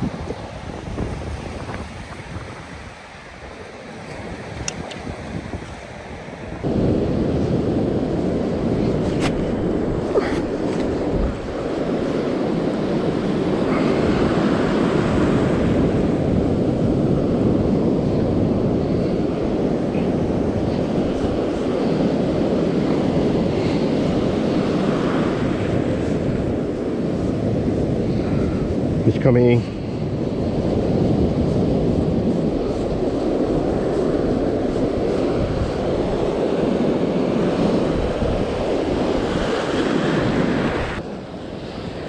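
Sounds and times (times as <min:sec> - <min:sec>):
ocean surf breaking: 0:00.0 - 0:42.0
wind rushing over microphone: 0:00.0 - 0:42.0.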